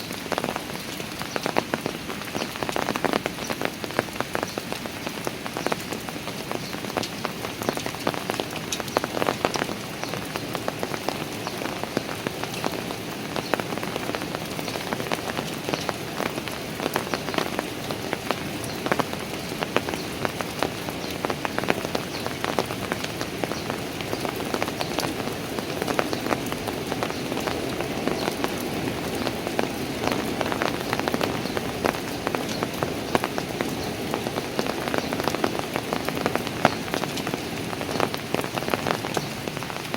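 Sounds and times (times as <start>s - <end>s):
rain tapping and splashing on stairs: 0.0s - 39.9s.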